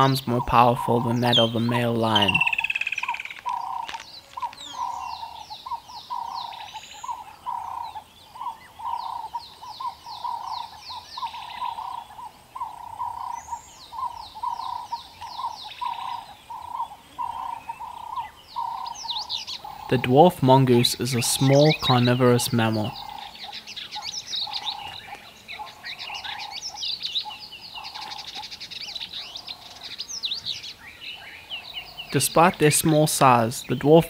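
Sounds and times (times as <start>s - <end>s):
bird repeating a low note: 0.0s - 34.0s
high falling bird trills: 0.0s - 34.0s.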